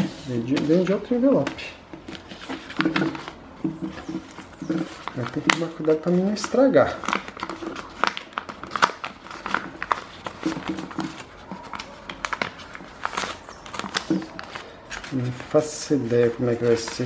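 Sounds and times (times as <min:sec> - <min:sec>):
envelope paper crinkling: 0:00.0 - 0:17.0.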